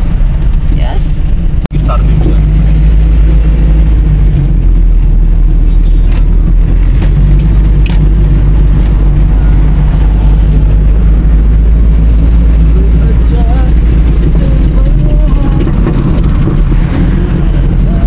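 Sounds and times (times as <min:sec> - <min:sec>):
car rumbling in motion: 0:00.0 - 0:18.0.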